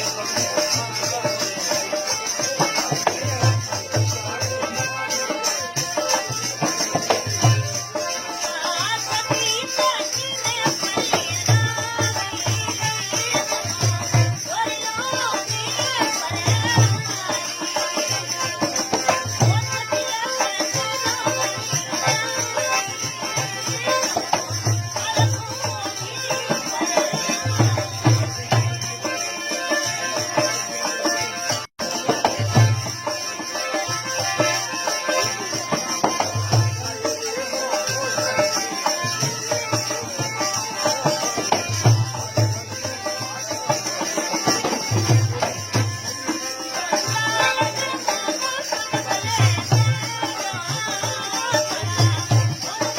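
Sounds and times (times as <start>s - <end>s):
folk melody instrument: 0.0s - 52.9s
hand drum beating: 0.0s - 52.9s.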